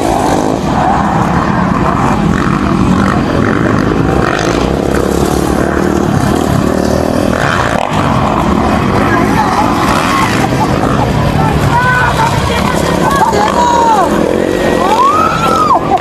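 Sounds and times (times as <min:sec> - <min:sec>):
motorcycle engines racing: 0:00.0 - 0:16.0.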